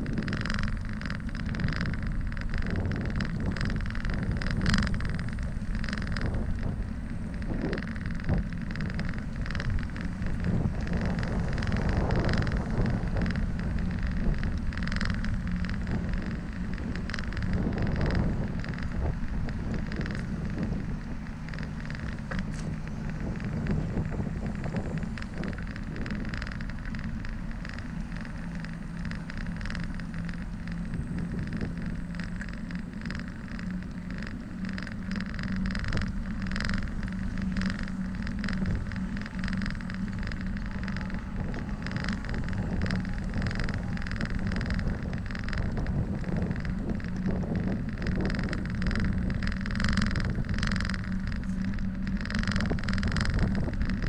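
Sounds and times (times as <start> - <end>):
bicycle rattles and knocks: 0.0 - 54.0
bicycle tyre noise: 0.0 - 54.0
road traffic passing: 0.0 - 54.0.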